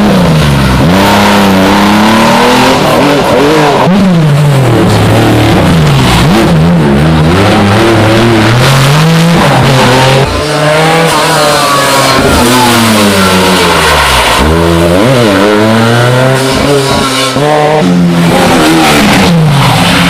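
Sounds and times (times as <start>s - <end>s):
rally car engines revving: 0.0s - 20.0s.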